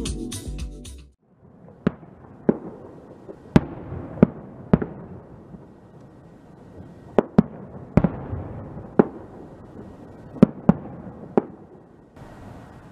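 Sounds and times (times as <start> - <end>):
continuous noisy haze: 1.2 - 12.9
fireworks bangs: 1.2 - 12.9.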